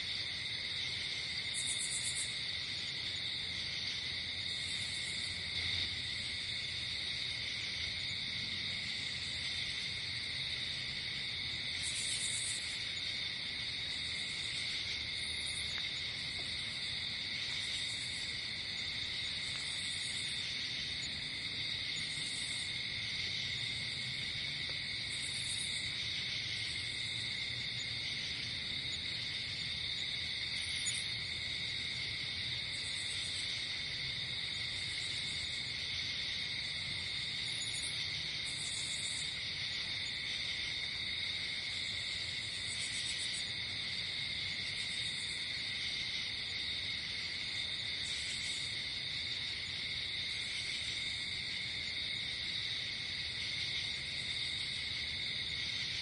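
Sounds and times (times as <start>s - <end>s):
crickets trilling: 0.0s - 56.0s
higher insect chirps: 0.1s - 56.0s.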